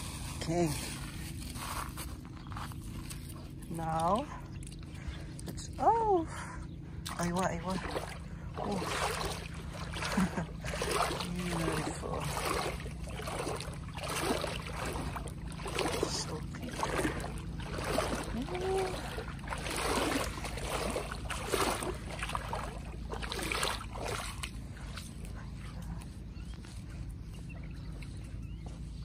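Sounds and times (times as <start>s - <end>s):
low steady rumble: 0.0s - 29.0s
water splashing and sloshing: 0.0s - 29.0s.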